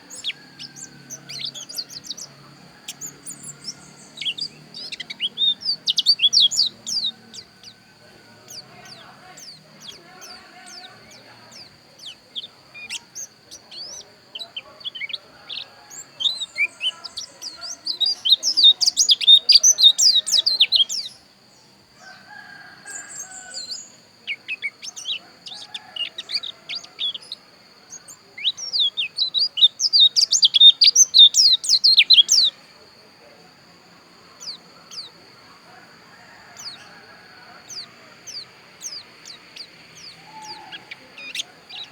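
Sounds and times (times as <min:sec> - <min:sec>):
bird twittering song: 0:00.0 - 0:41.9.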